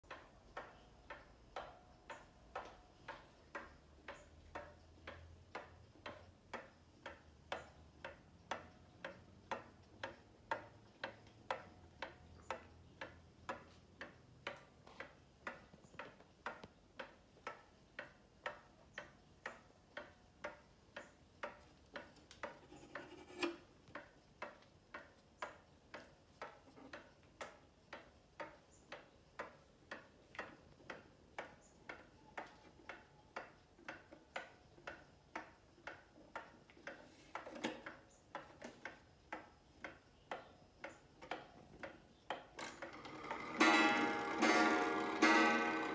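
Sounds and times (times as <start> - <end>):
pendulum clock ticking: 0.0 - 45.9.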